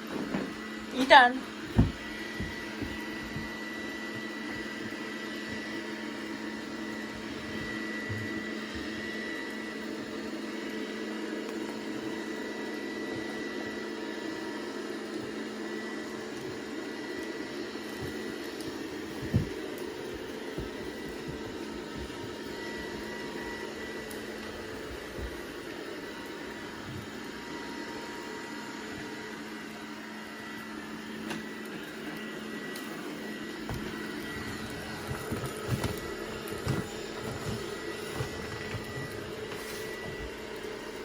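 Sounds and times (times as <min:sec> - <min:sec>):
robot vacuum cleaner humming: 0:00.0 - 0:41.0.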